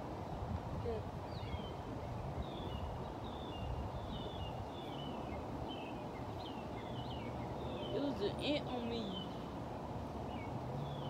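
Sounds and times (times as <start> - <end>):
birds chirping: 0.9 - 11.0.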